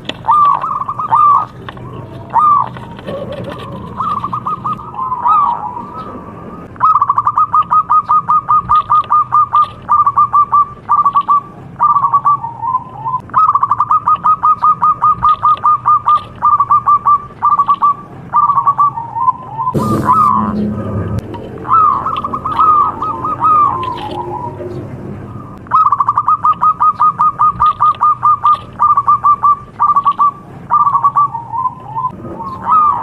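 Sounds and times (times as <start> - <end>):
dove cooing: 0.0 - 33.0
steady low hum: 0.0 - 33.0.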